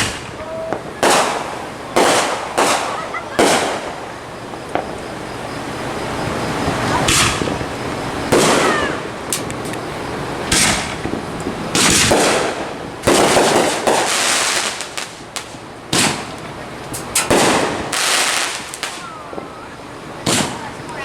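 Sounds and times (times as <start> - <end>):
fireworks bangs: 0.0 - 21.0
fireworks crackling pops: 0.0 - 21.0.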